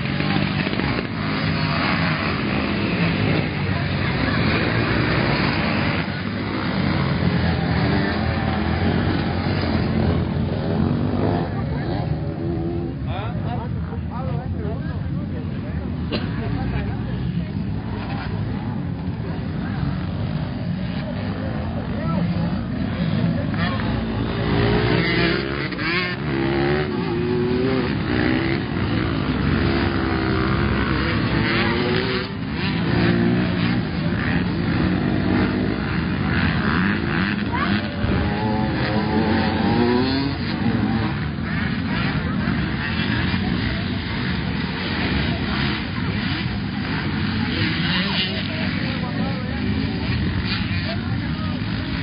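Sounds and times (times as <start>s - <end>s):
dirt bike engines running: 0.0s - 52.0s.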